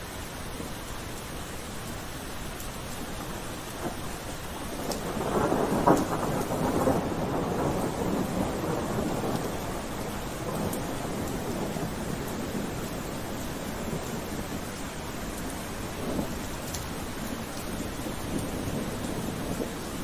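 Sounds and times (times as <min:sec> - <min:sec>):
steady rain falling: 0:00.0 - 0:20.0
thunder rumbling: 0:03.2 - 0:20.0.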